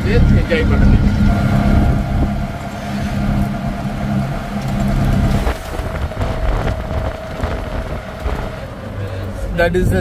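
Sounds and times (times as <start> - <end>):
auto rickshaw engine running: 0.0 - 10.0
road and wind noise: 0.0 - 10.0.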